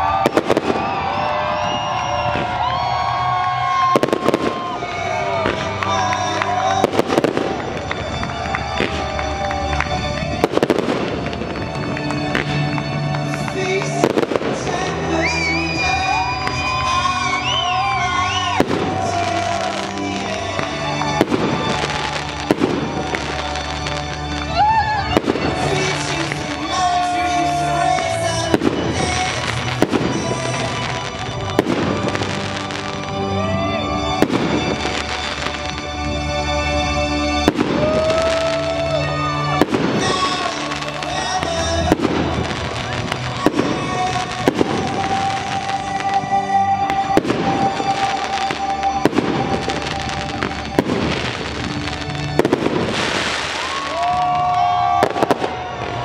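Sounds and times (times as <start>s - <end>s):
fireworks crackling: 0.0s - 56.0s
music with long held notes: 0.0s - 56.0s.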